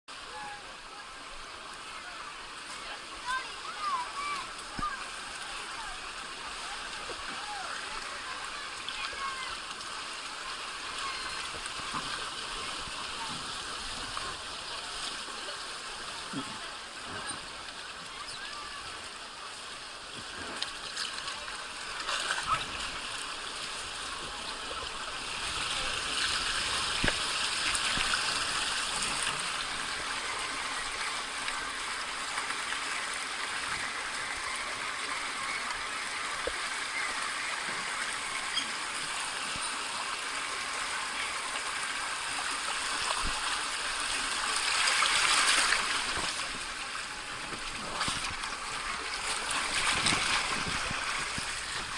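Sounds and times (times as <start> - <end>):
water rushing and splashing: 0.1 - 51.9.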